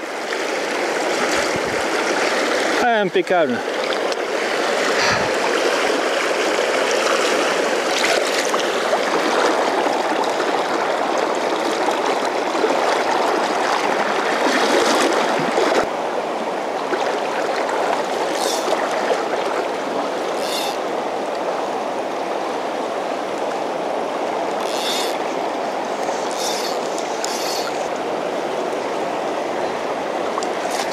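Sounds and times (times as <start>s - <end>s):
river rushing over riffles: 0.0s - 30.9s.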